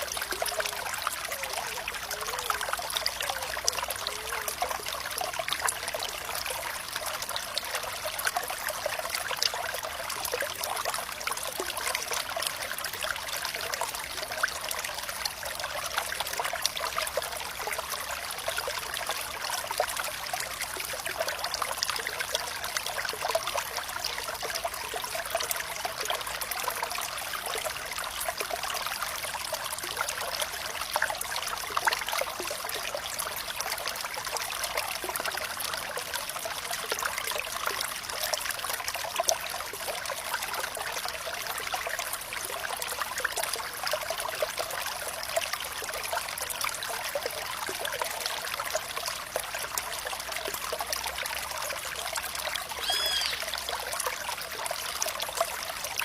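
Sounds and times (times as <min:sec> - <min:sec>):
small splashes and drips: 0:00.0 - 0:56.0
water flowing and trickling: 0:00.0 - 0:56.0.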